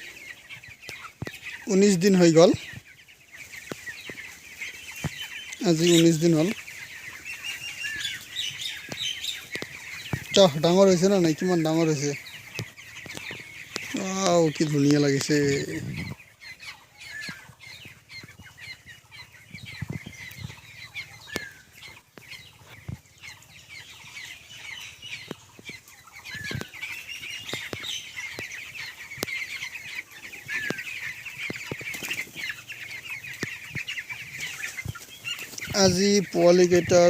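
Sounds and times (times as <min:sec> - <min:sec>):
chicks cheeping: 0:00.0 - 0:37.0.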